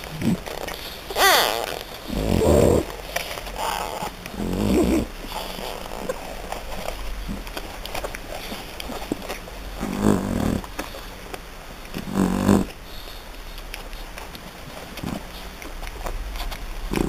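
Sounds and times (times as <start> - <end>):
puppies suckling: 0.0 - 17.0.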